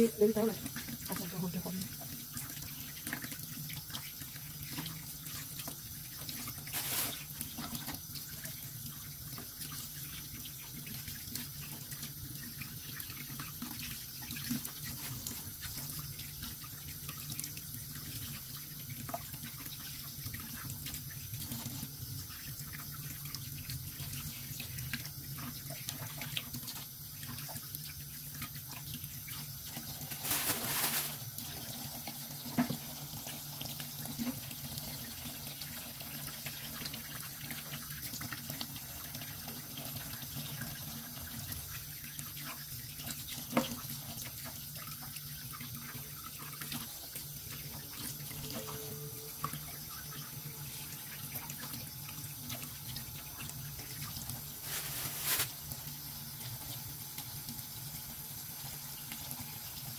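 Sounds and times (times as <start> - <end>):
tap water running into sink: 0.0 - 59.9.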